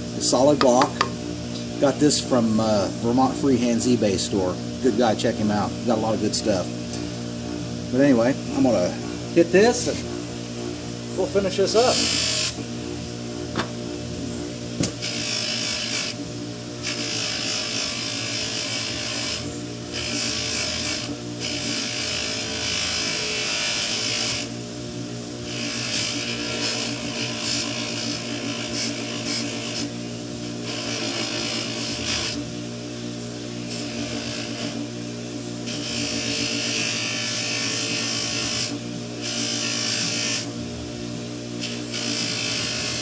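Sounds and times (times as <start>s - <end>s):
buffer motor humming: 0.0s - 43.0s.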